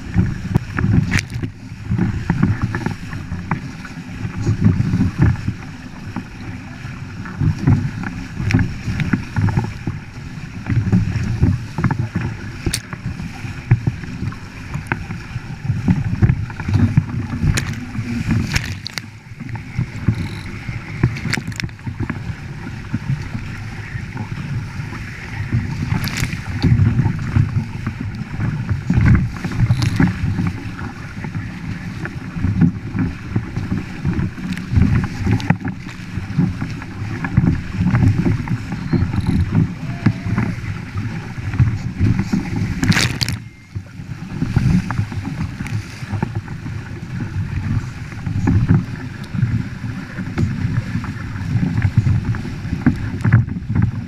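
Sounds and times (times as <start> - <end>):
water rushing along hull: 0.0 - 54.0
wind buffeting microphone: 0.0 - 54.0.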